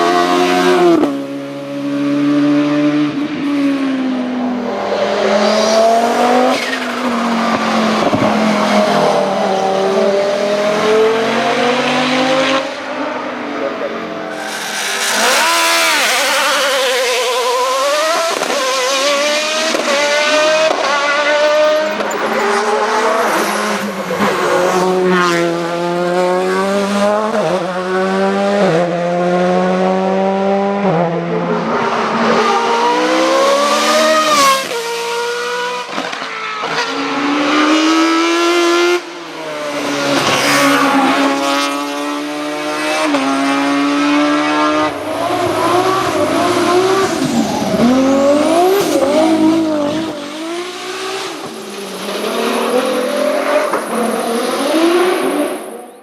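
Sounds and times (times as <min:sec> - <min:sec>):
racing car engine revving: 0:04.6 - 0:56.0.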